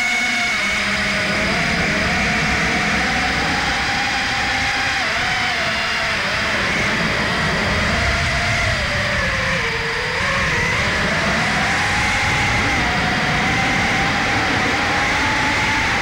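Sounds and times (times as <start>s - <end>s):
electric motors and propellers whining: 0.0s - 16.0s
wind rush on microphone: 0.4s - 16.0s.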